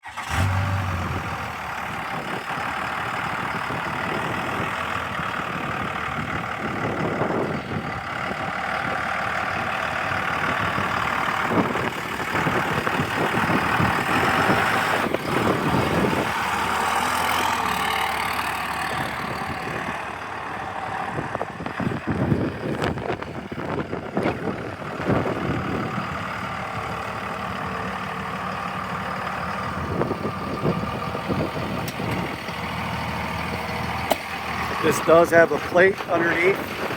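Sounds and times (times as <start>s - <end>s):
diesel pickup engine idling: 0.0s - 36.9s.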